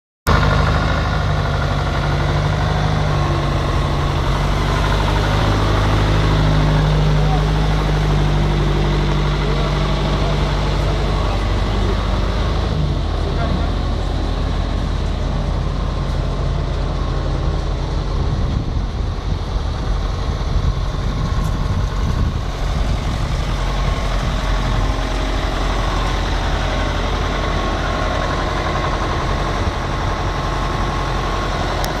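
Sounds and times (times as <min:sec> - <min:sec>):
diesel truck engine idling: 0:00.3 - 0:32.0.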